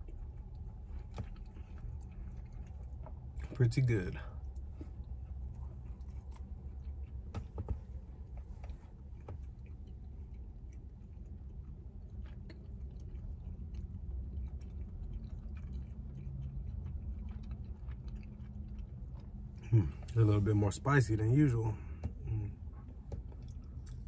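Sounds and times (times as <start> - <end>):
person chewing food: 0.0 - 20.5, 21.2 - 24.0
low steady hum: 0.0 - 24.0.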